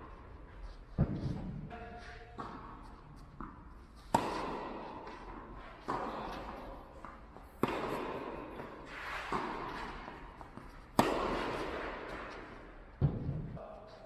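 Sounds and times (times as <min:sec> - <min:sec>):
racquet hitting tennis ball: 0:00.0 - 0:13.6.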